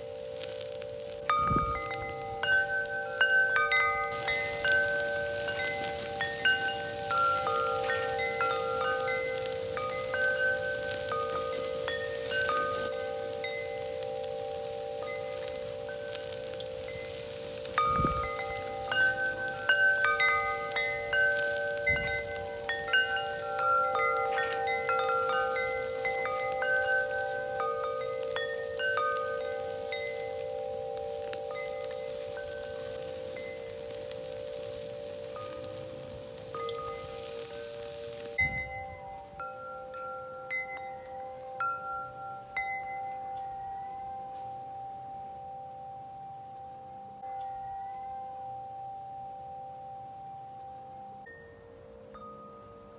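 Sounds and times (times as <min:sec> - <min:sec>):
grill sizzling: 0:00.0 - 0:51.4
chimes ringing: 0:00.0 - 0:52.9.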